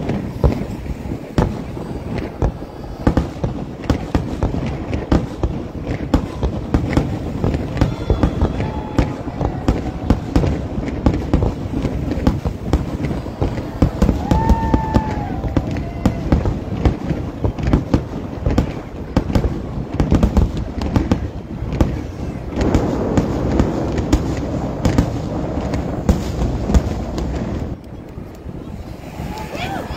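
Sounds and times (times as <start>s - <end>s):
fireworks bursting: 0.0s - 29.9s
fireworks crackle: 0.0s - 29.9s.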